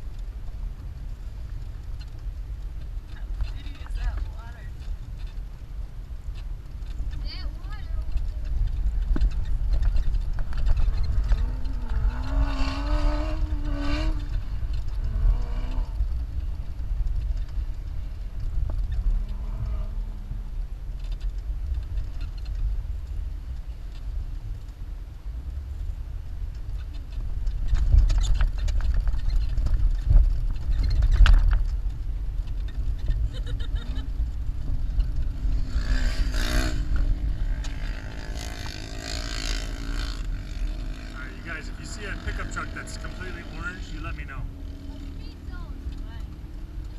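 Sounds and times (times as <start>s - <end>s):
jeep engine rumbling: 0.0s - 46.9s.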